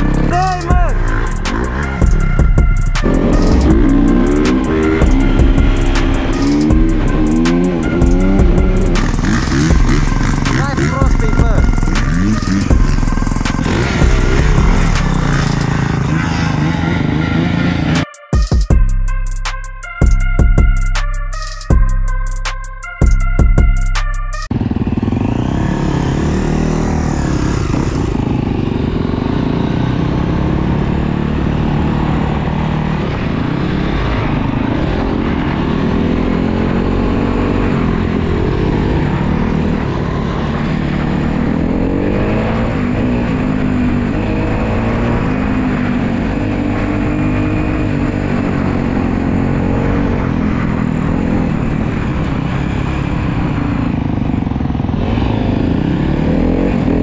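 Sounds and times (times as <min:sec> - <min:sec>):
dirt bike engine revving: 0:00.0 - 0:18.1, 0:24.5 - 0:57.0.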